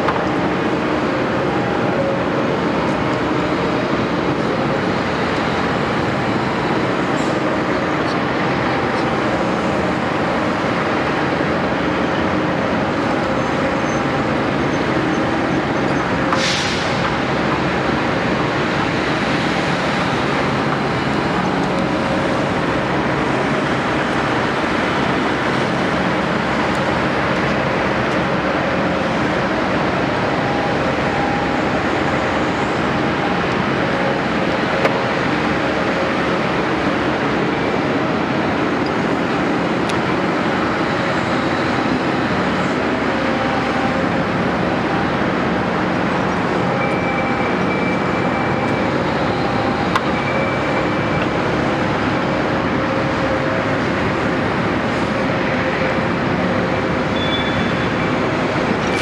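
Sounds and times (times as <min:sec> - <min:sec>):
excavator running: 0:00.0 - 0:59.0.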